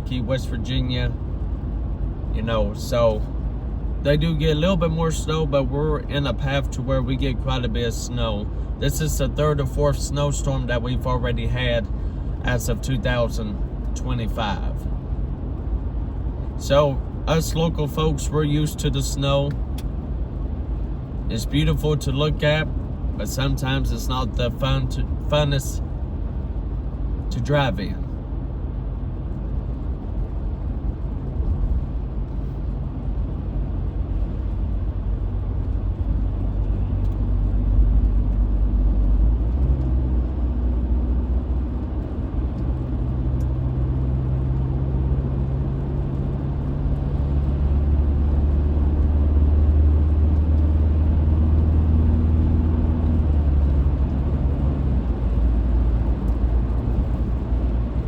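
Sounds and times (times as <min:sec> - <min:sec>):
road and engine rumble inside cab: 0:00.0 - 0:58.0.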